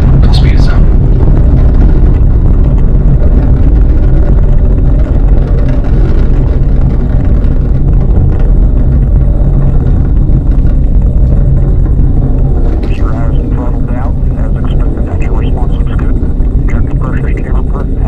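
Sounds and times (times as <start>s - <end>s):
deep rocket rumble: 0.0s - 18.0s.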